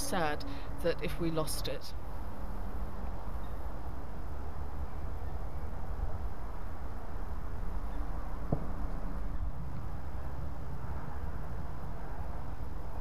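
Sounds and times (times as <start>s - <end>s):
low outdoor background rumble: 0.0s - 13.0s.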